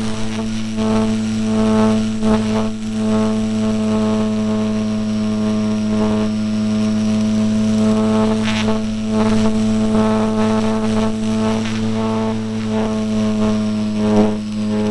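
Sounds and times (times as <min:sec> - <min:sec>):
model plane motor droning: 0:00.0 - 0:14.9.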